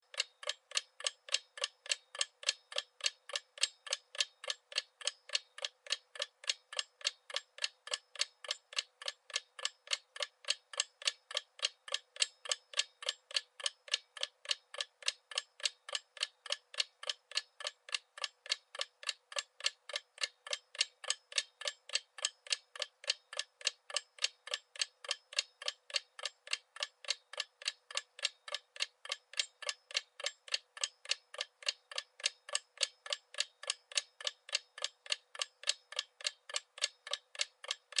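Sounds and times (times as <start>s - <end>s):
clock-like ticking: 0.0s - 38.0s.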